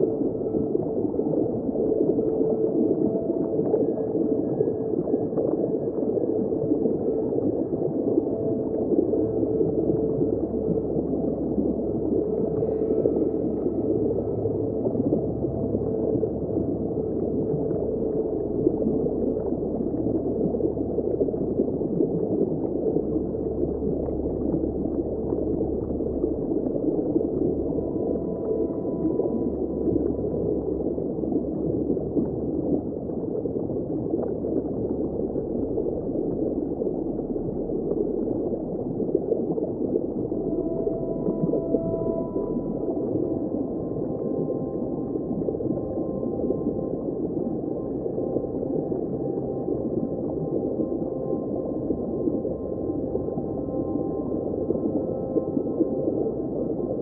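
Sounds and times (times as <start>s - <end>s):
muffled underwater rush: 0.0s - 57.0s.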